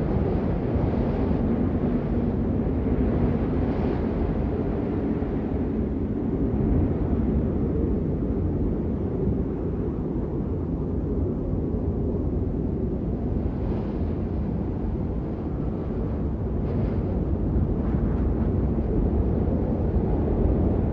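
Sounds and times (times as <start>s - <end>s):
blizzard wind blowing: 0.0s - 20.9s.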